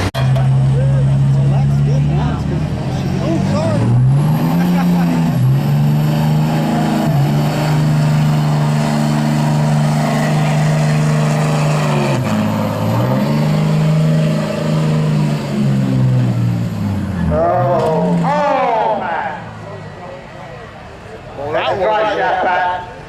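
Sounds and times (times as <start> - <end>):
diesel truck engine under heavy load: 0.0 - 23.0.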